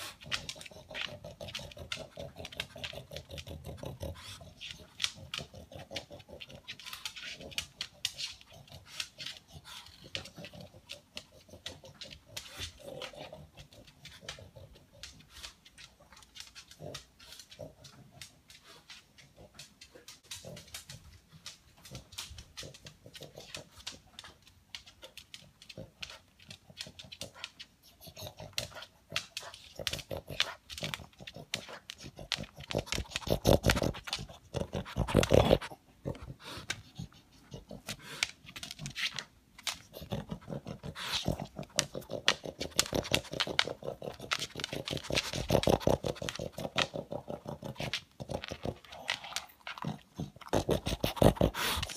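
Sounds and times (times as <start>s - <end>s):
dog sniffing along the floor: 0.0s - 51.9s.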